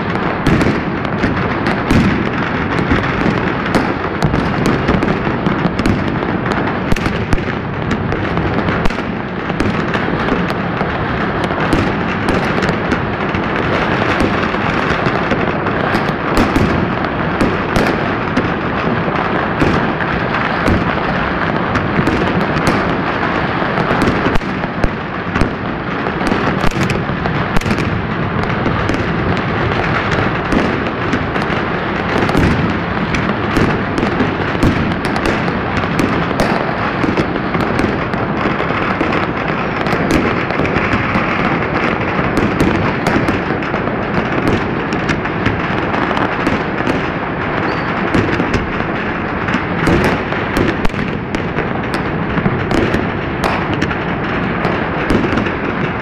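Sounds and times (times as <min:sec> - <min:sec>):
fireworks crackling barrage: 0:00.0 - 0:56.0
fireworks sharp bangs: 0:00.0 - 0:56.0.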